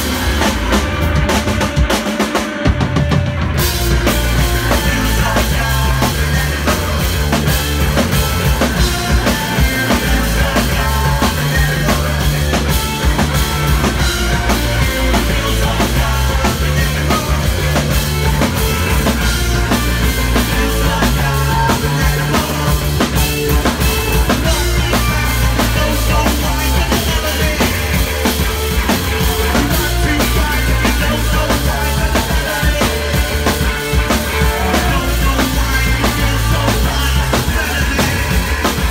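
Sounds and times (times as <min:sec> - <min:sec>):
bass guitar line: 0:00.0 - 0:38.9
driving drum kit: 0:00.0 - 0:38.9
live rock band playing: 0:00.0 - 0:38.9.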